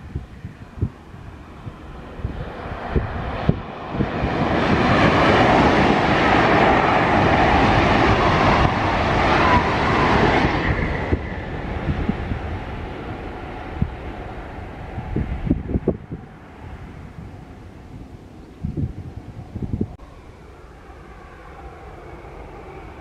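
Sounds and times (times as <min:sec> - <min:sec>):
high-speed train passing: 0:00.0 - 0:23.0.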